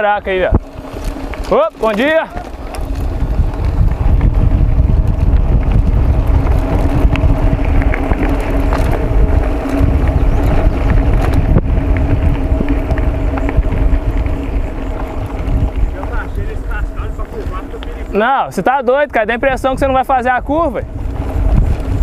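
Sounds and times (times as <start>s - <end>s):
bike hum and rattles: 0.0s - 22.0s
tyres rumbling on dirt and stones: 0.0s - 22.0s
wind buffeting microphone: 0.0s - 22.0s.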